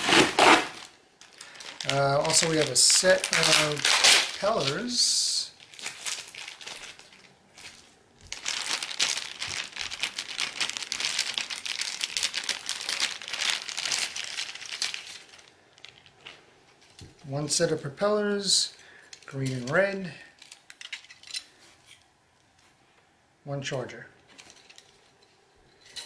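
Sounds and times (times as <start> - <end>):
plastic packaging crinkling: 0.0 - 17.3, 18.3 - 22.1, 24.2 - 25.5.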